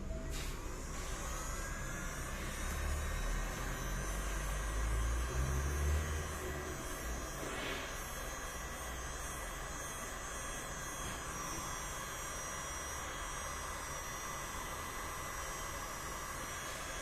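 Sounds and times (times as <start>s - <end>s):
heat gun blowing air with hum: 0.3s - 17.0s.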